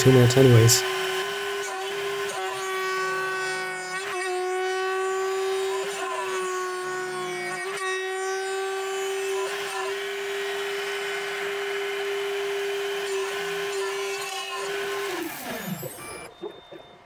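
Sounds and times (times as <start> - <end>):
cutting steel: 0.0 - 17.0
milling machine spindle whine: 0.0 - 17.0.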